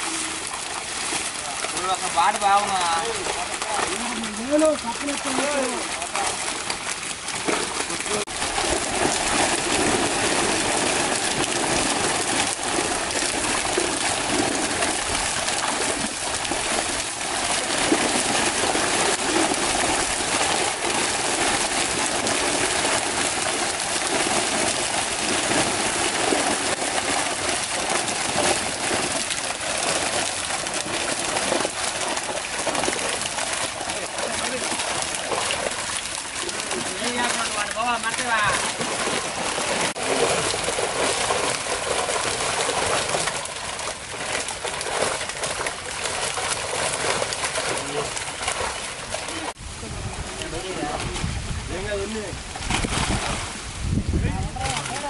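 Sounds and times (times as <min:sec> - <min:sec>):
fish thrashing and splashing: 0:00.0 - 0:55.0.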